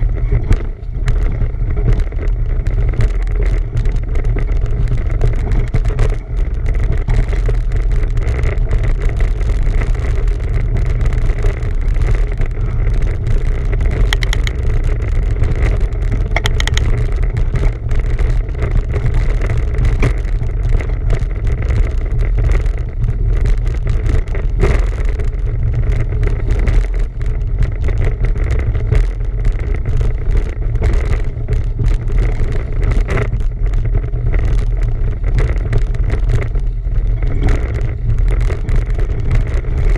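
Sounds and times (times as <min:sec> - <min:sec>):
bicycle rolling noise: 0:00.0 - 0:39.9
wind buffeting microphone: 0:00.0 - 0:39.9.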